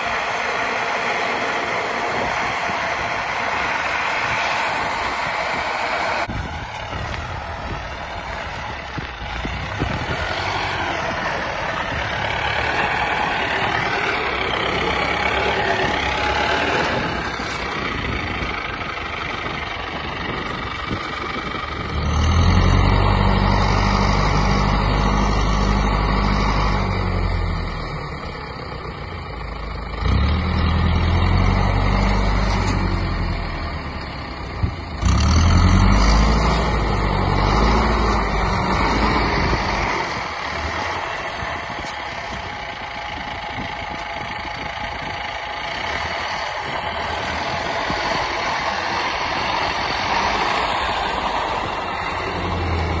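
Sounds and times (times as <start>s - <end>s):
truck diesel engine working: 0.0s - 53.0s.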